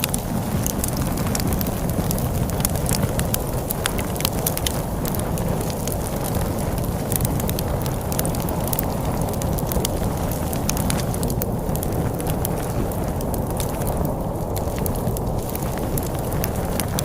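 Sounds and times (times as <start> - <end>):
low rumble of storm wind: 0.0 - 17.0
wood fire crackling and popping: 0.0 - 17.0.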